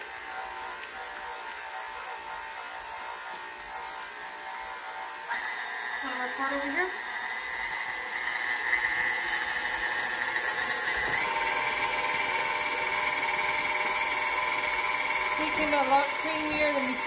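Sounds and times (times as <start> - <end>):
stand mixer motor whining: 0.0 - 17.0.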